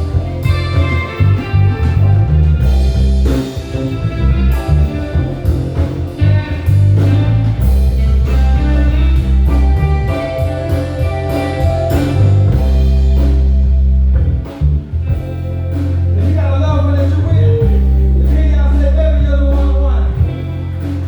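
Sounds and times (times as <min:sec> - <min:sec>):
drum kit strokes: 0:00.0 - 0:21.0
electric bass line: 0:00.0 - 0:21.0
guitar: 0:00.0 - 0:21.0
keyboards: 0:00.0 - 0:21.0.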